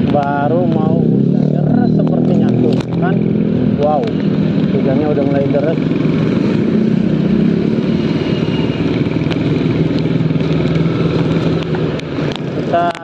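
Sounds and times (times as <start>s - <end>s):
motorcycle engine drone: 0.0s - 13.0s
other motorbikes running: 0.0s - 13.0s
tyres on wet road: 0.0s - 13.0s.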